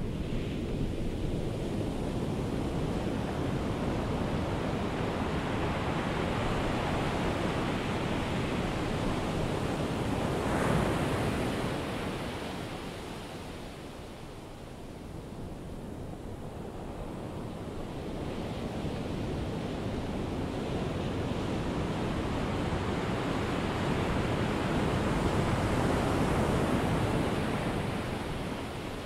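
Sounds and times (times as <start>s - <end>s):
ocean surf washing onto beach: 0.0s - 29.0s.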